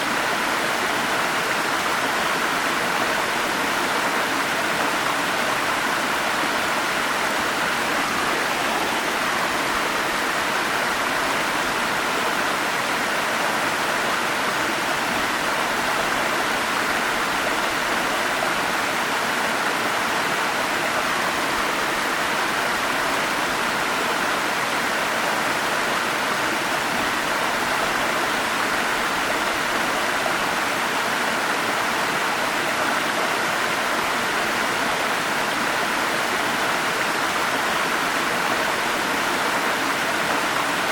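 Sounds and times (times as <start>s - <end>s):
stream and falling water rushing: 0.0s - 40.9s.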